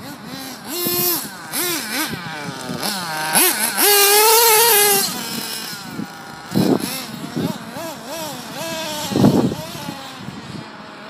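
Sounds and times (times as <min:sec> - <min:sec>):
model car engine revving: 0:00.0 - 0:11.0.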